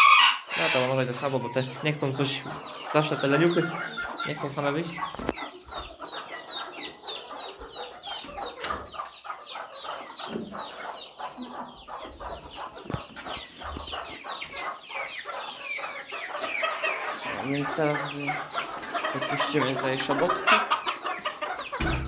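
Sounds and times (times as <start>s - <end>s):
chickens peeping and clucking: 0.0s - 22.0s.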